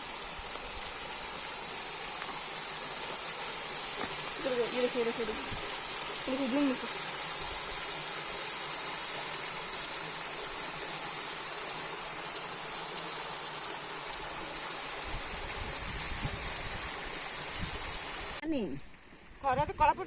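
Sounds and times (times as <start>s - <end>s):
high-pitched insect chorus: 0.0s - 20.0s
soft hiss: 0.0s - 20.0s.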